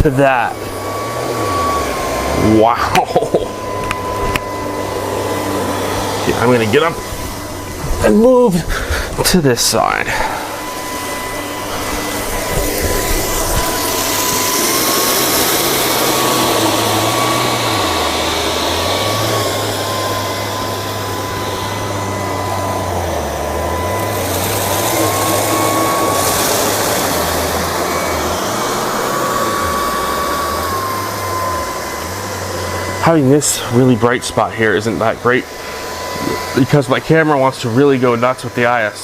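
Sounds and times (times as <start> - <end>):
robot vacuum motor whine: 0.0 - 39.0.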